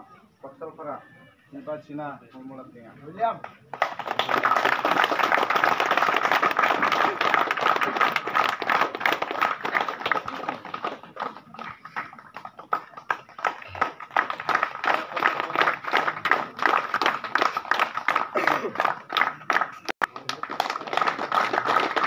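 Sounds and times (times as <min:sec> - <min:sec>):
crowd clapping: 0:03.4 - 0:22.0.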